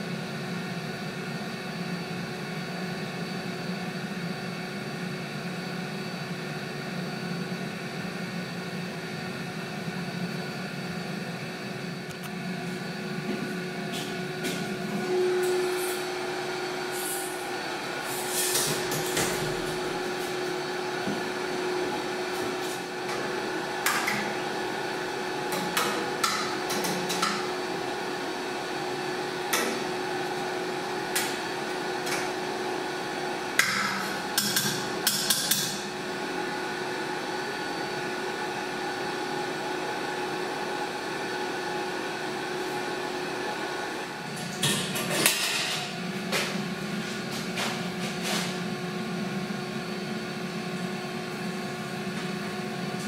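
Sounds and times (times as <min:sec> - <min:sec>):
equipment hum: 0:00.0 - 0:53.0.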